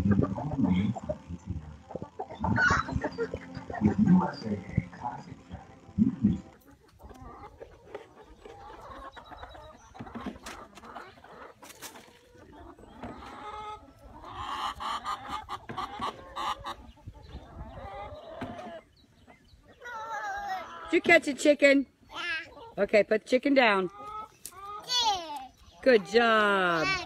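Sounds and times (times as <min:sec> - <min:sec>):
hens clucking: 0:00.0 - 0:27.0.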